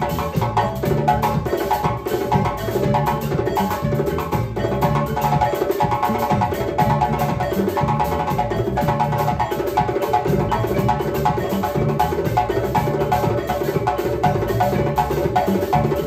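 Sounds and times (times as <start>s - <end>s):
live band music: 0.0s - 16.0s
wooden xylophone: 0.0s - 16.0s.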